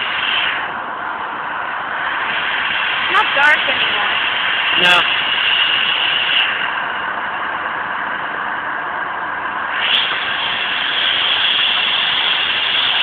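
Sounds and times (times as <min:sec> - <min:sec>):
steam hissing from locomotive: 0:00.0 - 0:00.8, 0:01.5 - 0:08.1, 0:09.6 - 0:13.0.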